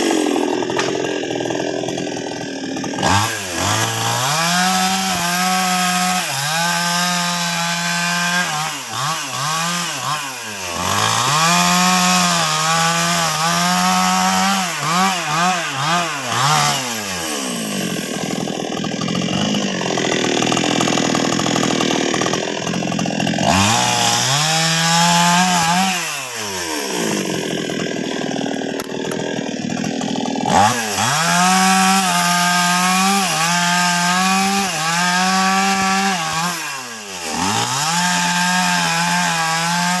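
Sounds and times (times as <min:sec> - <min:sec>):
chainsaw cutting logs: 0:00.0 - 0:40.0.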